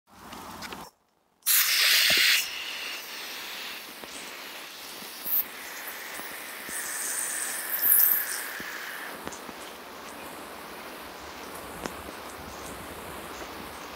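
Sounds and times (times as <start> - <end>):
hose water spray hissing: 1.4 - 13.9.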